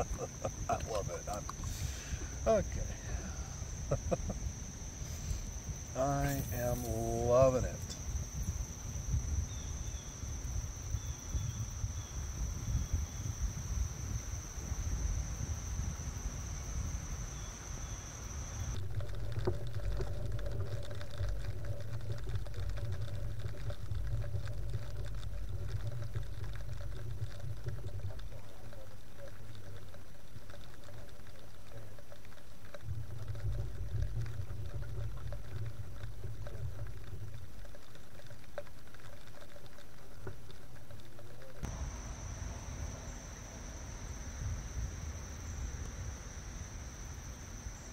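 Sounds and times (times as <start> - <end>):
high insect trill: 0.0 - 47.9
water pattering and trickling: 0.0 - 47.9.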